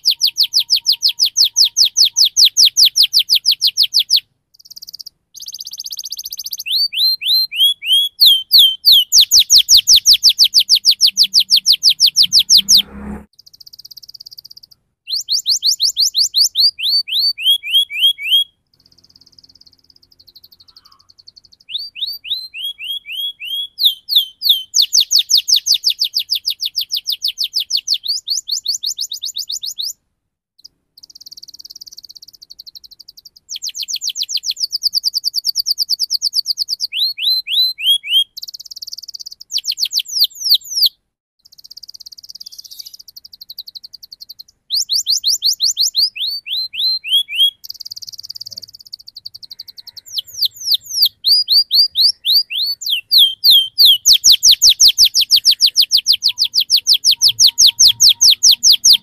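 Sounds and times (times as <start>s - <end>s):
canary singing trills: 0.0s - 30.0s, 30.6s - 59.0s.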